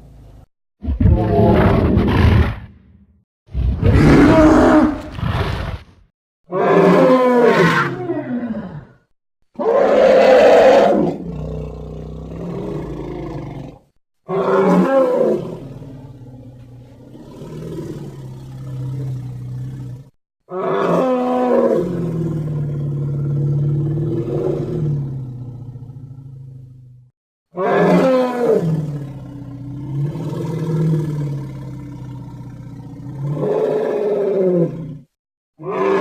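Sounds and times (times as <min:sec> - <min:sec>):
dinosaur bellowing roar: 0:00.8 - 0:02.7, 0:03.5 - 0:05.9, 0:06.5 - 0:09.0, 0:09.6 - 0:26.7, 0:27.6 - 0:36.0.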